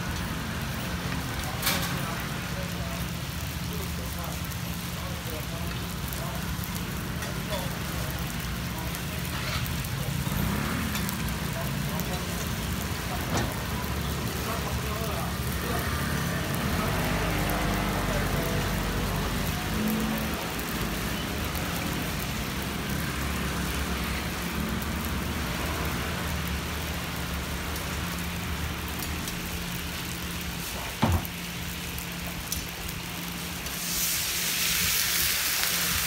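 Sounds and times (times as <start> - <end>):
buns frying in oil: 0.0 - 36.0
water hissing in hot pan: 0.0 - 36.0.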